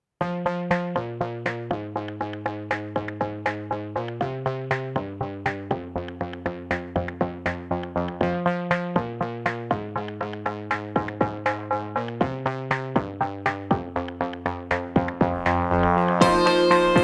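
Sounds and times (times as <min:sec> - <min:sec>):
plucked synth notes: 0:00.2 - 0:17.0
held bass notes: 0:00.3 - 0:17.0.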